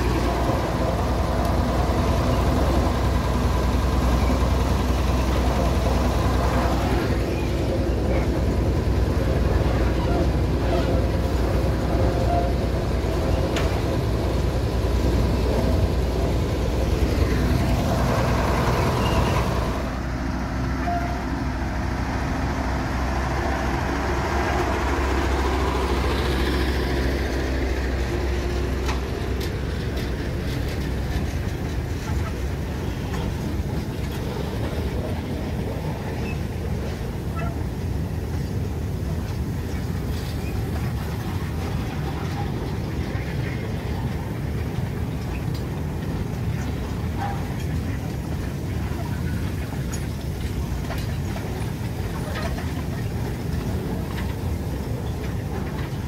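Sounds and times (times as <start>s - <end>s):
diesel locomotive engine humming: 0.0s - 56.0s.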